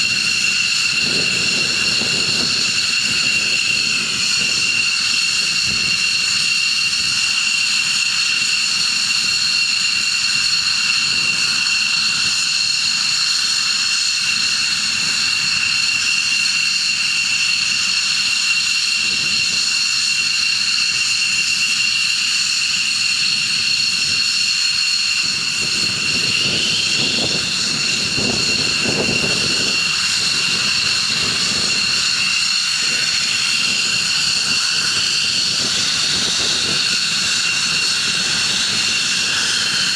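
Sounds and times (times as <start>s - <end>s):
jet engine whine and roar: 0.0s - 39.9s.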